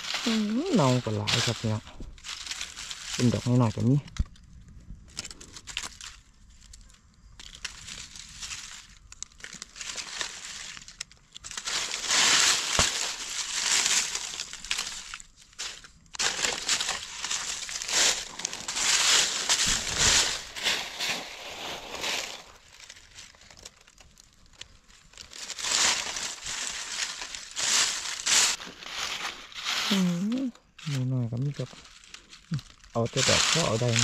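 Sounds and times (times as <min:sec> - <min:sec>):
dry leaves crunching and rustling: 0:00.0 - 0:34.0.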